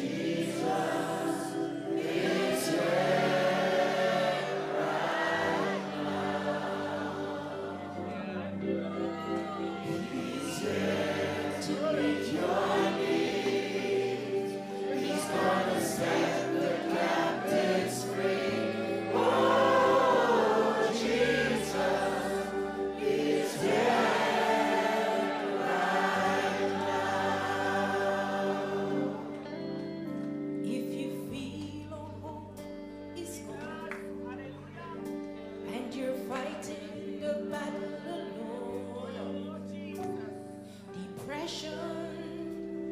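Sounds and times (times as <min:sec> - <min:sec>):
choir singing gospel music: 0:00.0 - 0:30.8, 0:35.2 - 0:42.9.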